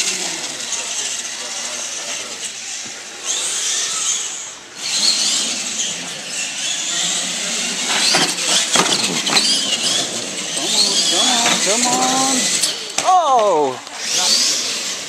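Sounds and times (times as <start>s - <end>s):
toy truck motors whining: 0.0s - 15.0s.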